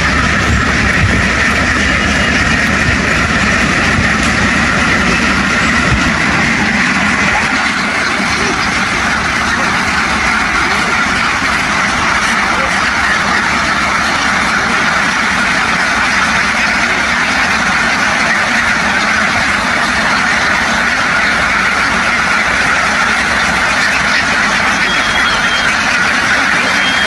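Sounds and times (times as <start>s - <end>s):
flock of ducks quacking: 0.0s - 27.0s.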